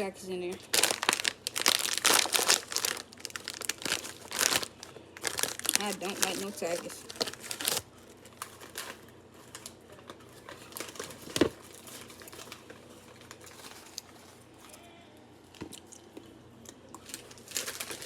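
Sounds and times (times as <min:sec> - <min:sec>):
plastic chip bag rustling: 0:00.5 - 0:14.8, 0:17.0 - 0:18.0.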